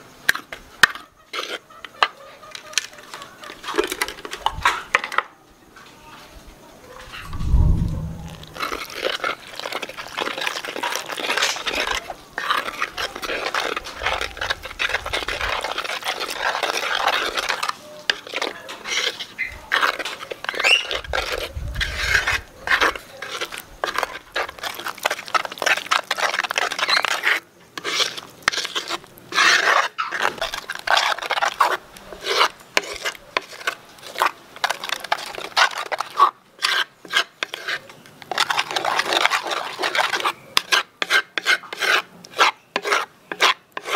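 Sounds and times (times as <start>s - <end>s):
metal spoon scraping in a bowl: 0.4s - 5.2s, 7.0s - 43.9s.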